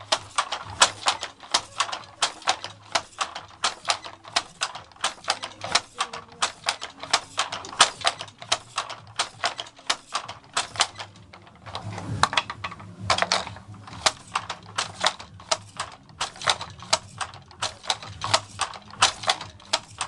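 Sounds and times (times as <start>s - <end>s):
wooden handloom clacking: 0.0s - 20.0s.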